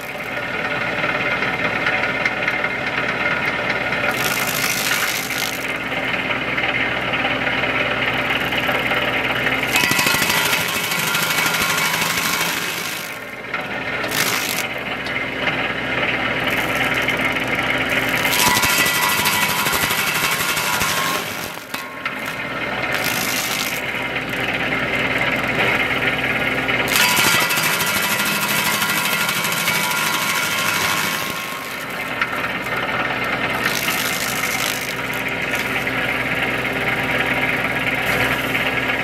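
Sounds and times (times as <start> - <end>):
stump grinder humming: 0.0 - 39.0
harsh grinding of tree stump: 4.0 - 6.2, 8.1 - 39.0.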